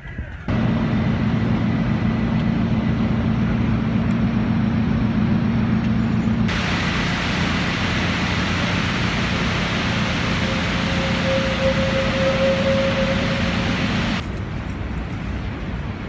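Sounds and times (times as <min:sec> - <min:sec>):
city traffic hum: 0:00.2 - 0:16.0.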